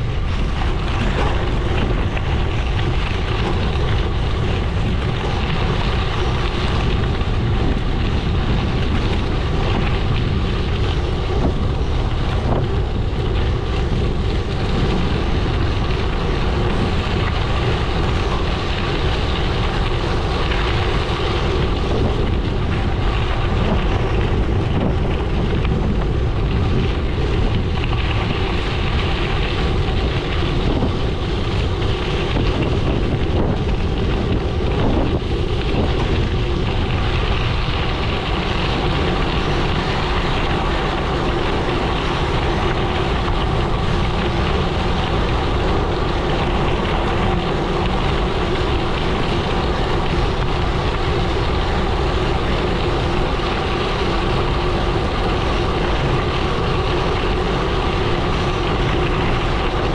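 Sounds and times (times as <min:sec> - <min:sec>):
bike tyres rolling on gravel: 0:00.0 - 0:59.9
wind noise on microphone: 0:00.0 - 0:59.9.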